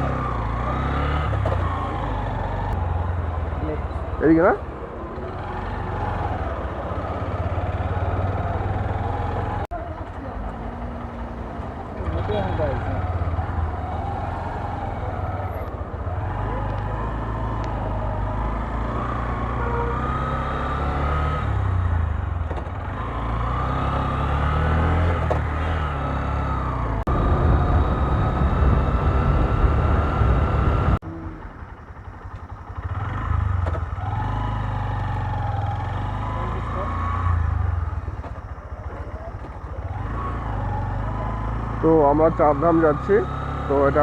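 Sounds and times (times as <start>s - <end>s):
motorcycle engine revving: 0.0s - 44.0s
road noise: 0.0s - 44.0s.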